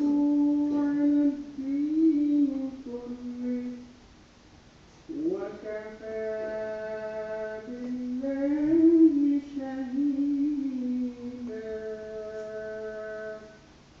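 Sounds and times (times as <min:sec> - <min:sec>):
person chanting melodically: 0:00.0 - 0:03.9, 0:05.1 - 0:13.7.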